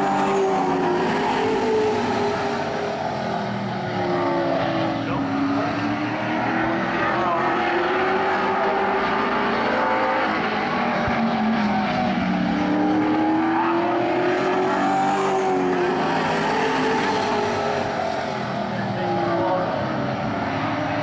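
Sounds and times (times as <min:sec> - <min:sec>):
race car engines running hard: 0:00.0 - 0:21.0.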